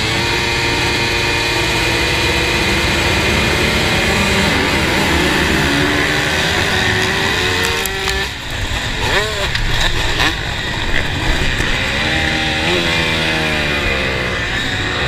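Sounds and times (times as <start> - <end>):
motocross bikes at full throttle: 0.0 - 15.0.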